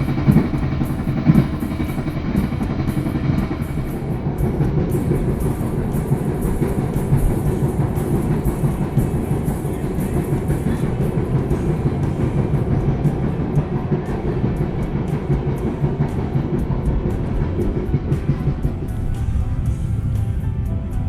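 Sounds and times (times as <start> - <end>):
rail clatter: 0.0 - 21.0
train rumbling on track: 0.0 - 21.0.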